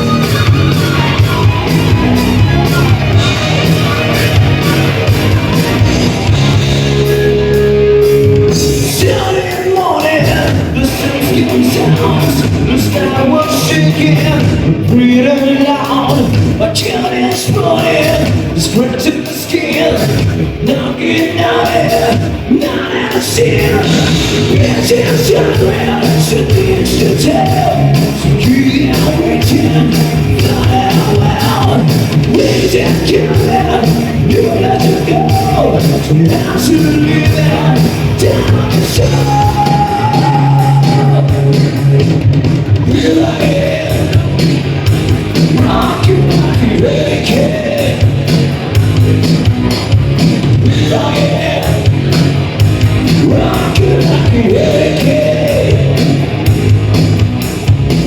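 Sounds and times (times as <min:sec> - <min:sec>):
person singing: 0:00.0 - 0:42.1, 0:42.8 - 0:44.6, 0:45.4 - 0:48.7, 0:50.5 - 0:52.3, 0:53.0 - 0:56.3
drums: 0:00.0 - 0:58.0
electric guitars: 0:00.0 - 0:58.0.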